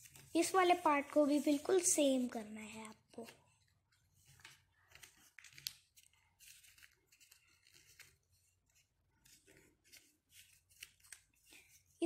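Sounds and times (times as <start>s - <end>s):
paper rustling and crackling: 0.0s - 2.0s, 2.6s - 12.0s.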